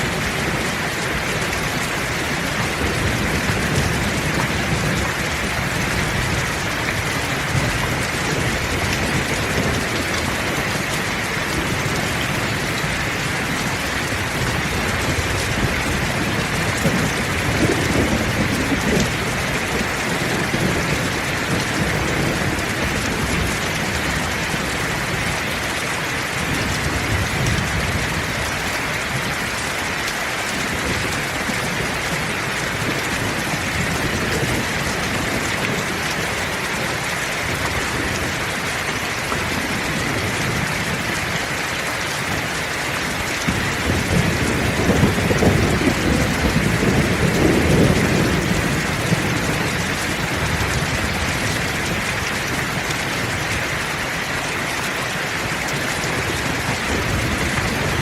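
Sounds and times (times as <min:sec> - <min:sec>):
thunder rumbling: 0:00.0 - 0:54.0
heavy rain falling: 0:00.0 - 0:58.0.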